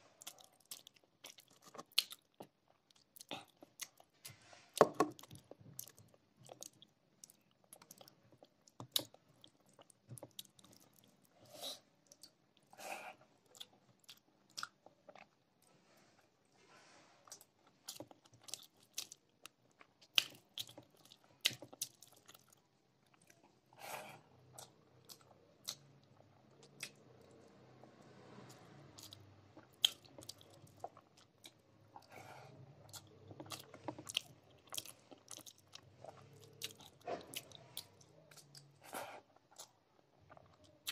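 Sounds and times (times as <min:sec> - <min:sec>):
person chewing with wet smacks: 0:00.2 - 0:04.2, 0:04.8 - 0:11.4, 0:12.0 - 0:15.7, 0:17.2 - 0:23.7, 0:24.4 - 0:27.5, 0:28.5 - 0:40.9.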